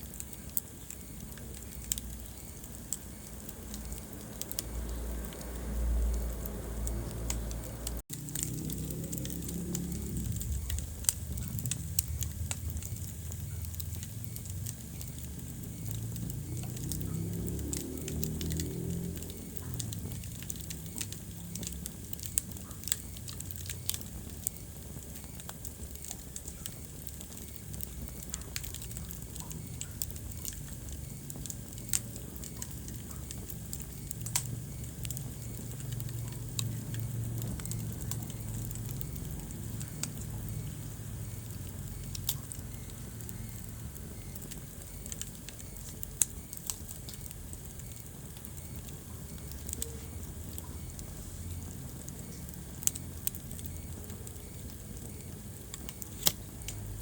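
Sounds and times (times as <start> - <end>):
fire low rumble: 0.0 - 57.0
wood fire crackling and popping: 0.0 - 57.0.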